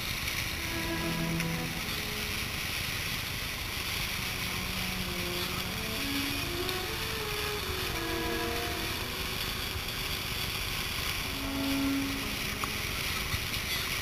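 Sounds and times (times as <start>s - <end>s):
boiling mud pot rumbling hiss: 0.0s - 14.0s.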